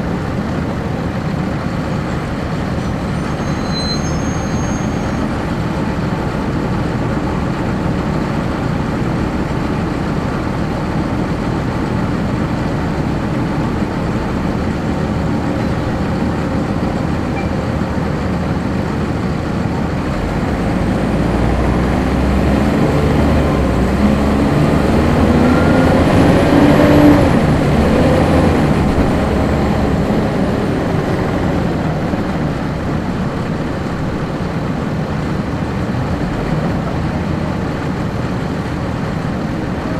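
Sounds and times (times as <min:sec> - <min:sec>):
bus diesel engine rumbling: 0:00.0 - 0:39.9.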